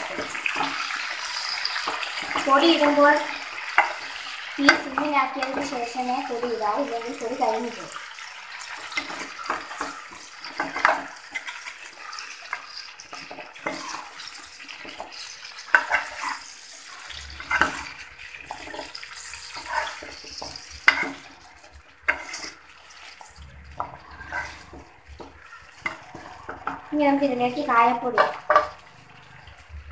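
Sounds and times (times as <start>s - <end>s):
oil sizzling: 0.0s - 29.9s
spoon scraping a pan: 0.0s - 29.9s.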